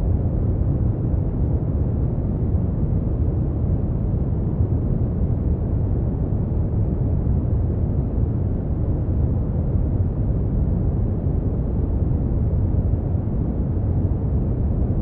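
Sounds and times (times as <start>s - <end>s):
deep rumbling brown noise: 0.0s - 15.0s.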